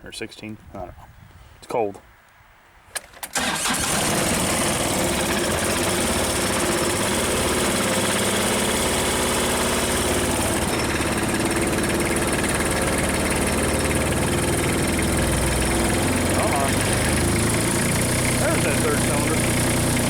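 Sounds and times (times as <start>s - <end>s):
diesel engine running rough: 3.4s - 20.0s.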